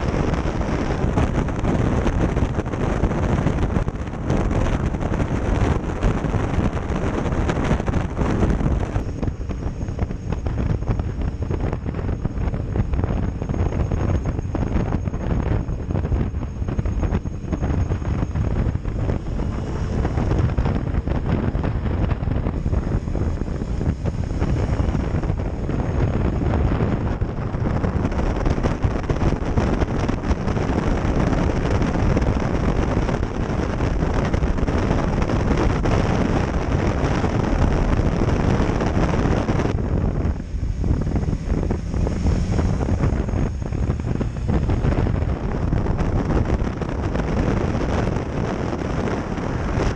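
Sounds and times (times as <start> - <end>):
motorcycle engine: 0.0 - 49.9
road noise: 0.0 - 49.9
wind rushing on microphone: 0.0 - 49.9.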